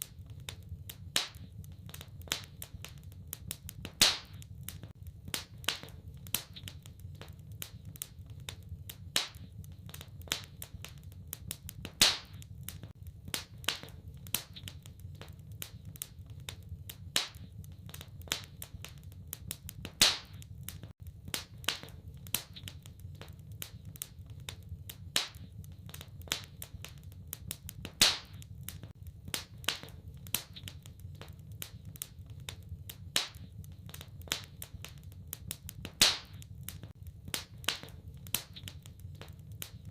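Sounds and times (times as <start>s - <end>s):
fire pops and snaps: 0.0s - 39.9s
low rumble of fire: 0.0s - 39.9s.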